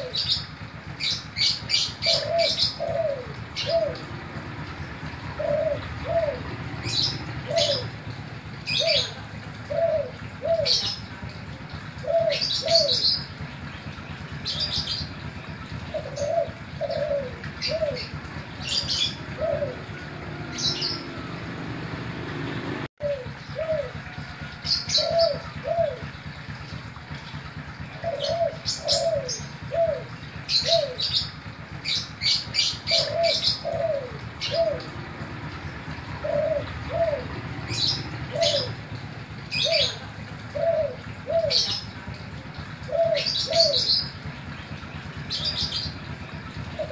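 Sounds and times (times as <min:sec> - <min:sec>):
dove cooing: 0:00.0 - 0:13.5, 0:14.2 - 0:21.9, 0:22.6 - 0:46.9
small birds chirping: 0:00.0 - 0:46.9.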